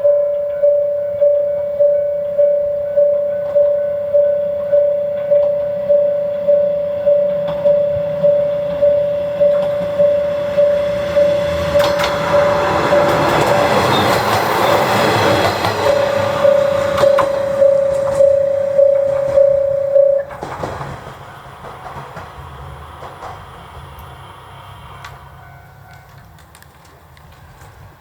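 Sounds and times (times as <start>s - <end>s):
level-crossing warning bell ringing: 0.0s - 26.4s
diesel railcar passing: 0.0s - 28.0s.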